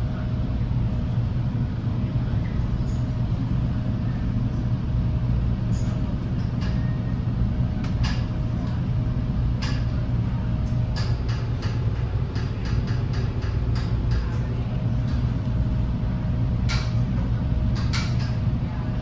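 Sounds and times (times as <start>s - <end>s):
train coach rumble and hum: 0.0s - 19.0s.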